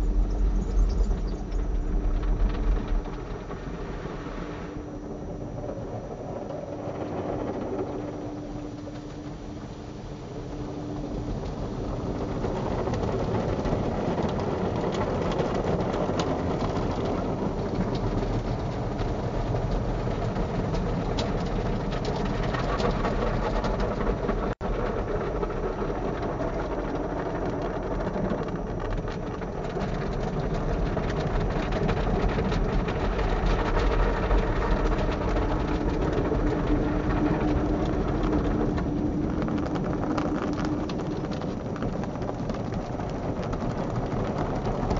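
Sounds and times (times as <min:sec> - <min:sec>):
car wash brushes and water jets: 0:00.0 - 0:44.9
steady hum: 0:00.0 - 0:44.9.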